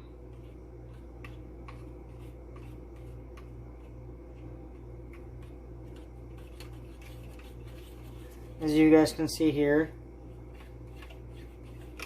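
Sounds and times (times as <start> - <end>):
fork beating eggs in a bowl: 0.0 - 9.2, 10.2 - 12.0
low hum: 0.0 - 12.0.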